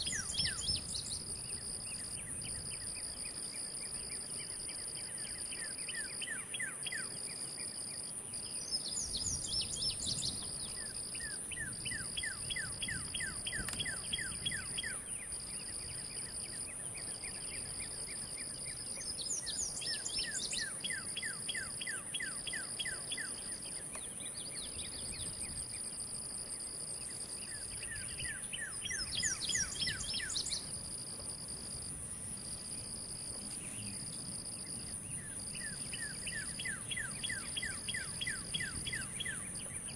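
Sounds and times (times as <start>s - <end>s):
bird chirping: 0.0s - 7.6s, 8.4s - 26.0s, 27.0s - 30.8s, 33.5s - 39.9s
insect high-pitched drone: 0.0s - 39.9s
insect trill: 0.0s - 39.9s.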